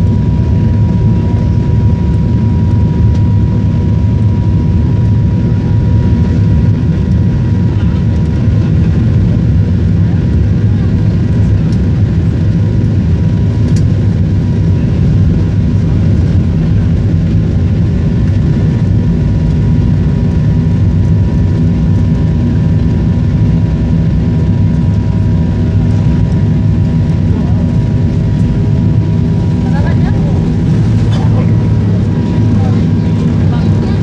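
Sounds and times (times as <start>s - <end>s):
airplane engines rumbling: 0.0s - 34.0s.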